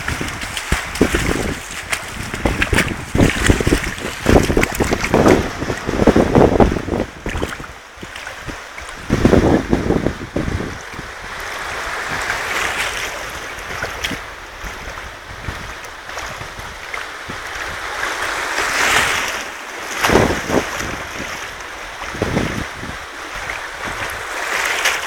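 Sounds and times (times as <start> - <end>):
wind buffeting microphone: 0.0 - 18.4, 20.0 - 24.4
surf washing over sand: 0.0 - 25.0.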